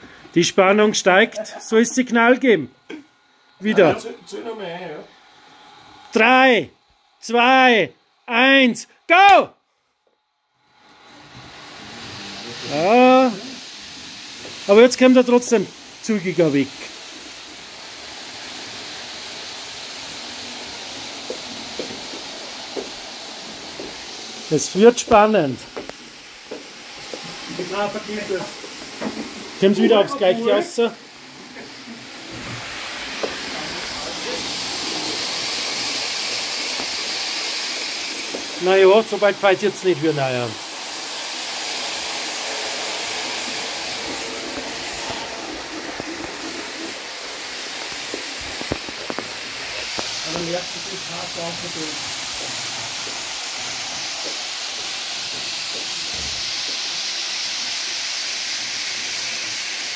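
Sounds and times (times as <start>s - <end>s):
model train wheels whirring: 3.4s - 6.6s, 10.5s - 59.9s.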